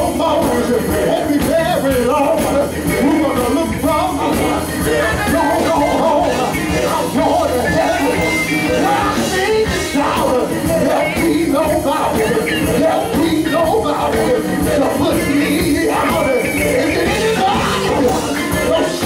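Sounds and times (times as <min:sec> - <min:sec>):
drums: 0:00.0 - 0:19.0
guitar: 0:00.0 - 0:19.0
keyboard: 0:00.0 - 0:19.0
male vocal group singing: 0:00.0 - 0:19.0.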